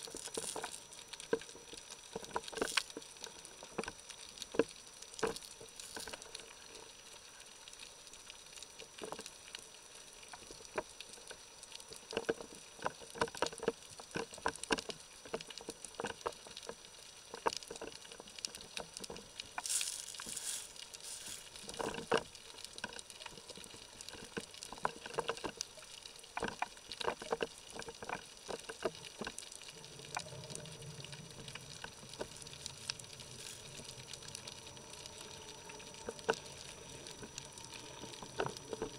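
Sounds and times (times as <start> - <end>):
faint hiss: 0.0 - 12.7, 16.8 - 26.9, 28.8 - 38.9
sharp underwater clicks and crackles: 0.0 - 38.9.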